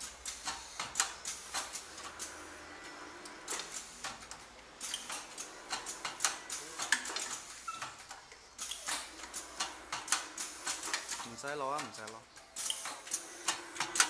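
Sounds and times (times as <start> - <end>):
printing machine clicks and clatter: 0.0 - 14.0.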